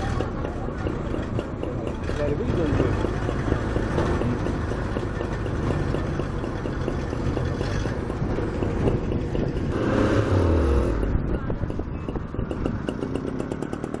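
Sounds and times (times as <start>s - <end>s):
car and motorcycle engines rumbling: 0.0s - 14.0s.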